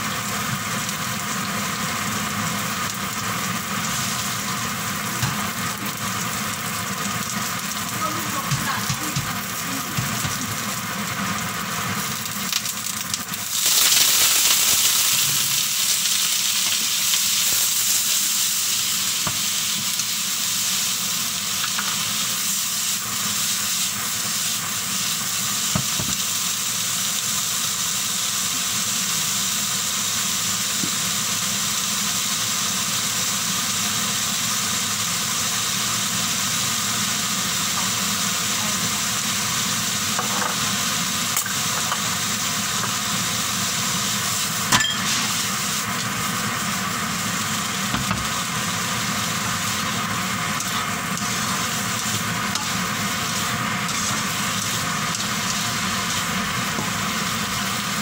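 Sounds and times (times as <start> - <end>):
vegetables sizzling in a wok: 0.0 - 58.0.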